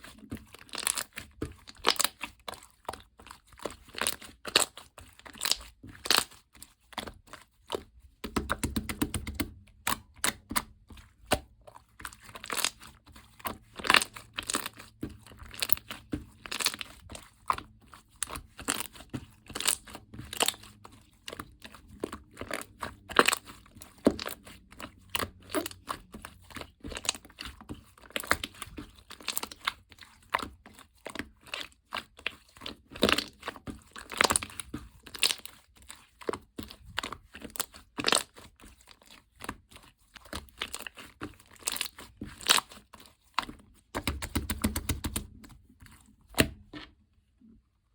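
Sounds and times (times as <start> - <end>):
slime squished crackling: 0.0 - 46.6.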